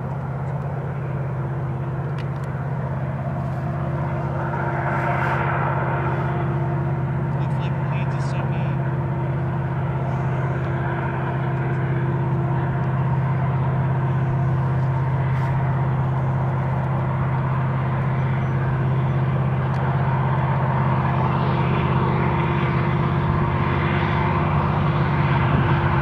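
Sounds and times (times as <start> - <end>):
diesel locomotive engines droning: 0.0 - 26.0.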